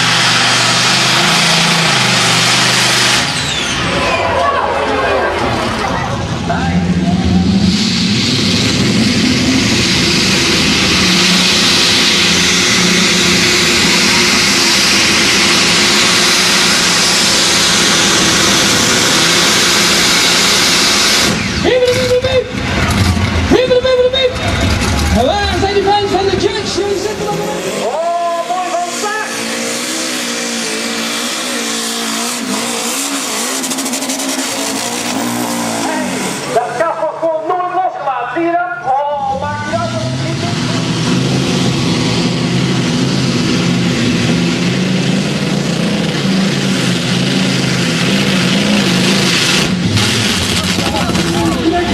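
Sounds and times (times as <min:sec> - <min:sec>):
loud engine at full power: 0:00.0 - 0:51.9.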